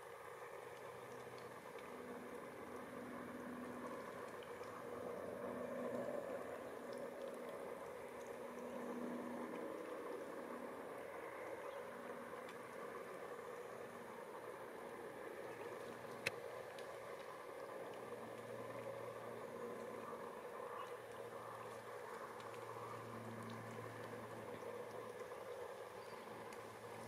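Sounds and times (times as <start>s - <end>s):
faint background rumble: 0.0s - 27.0s
low hum: 0.1s - 27.0s.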